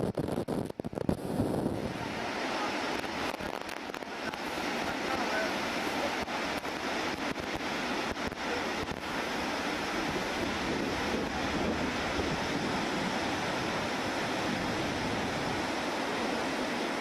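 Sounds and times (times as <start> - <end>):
wind buffeting microphone: 0.0 - 4.9, 6.1 - 16.0
river rushing in flood: 0.0 - 17.0.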